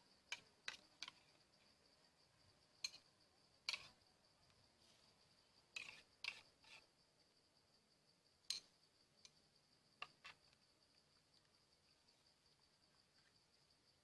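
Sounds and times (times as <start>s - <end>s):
high insect trill: 0.0s - 14.0s.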